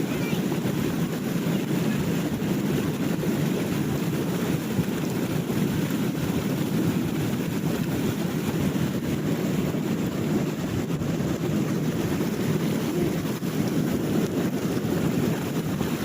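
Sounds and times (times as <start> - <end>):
sea washing: 0.0 - 16.0
wind buffeting microphone: 0.0 - 16.0.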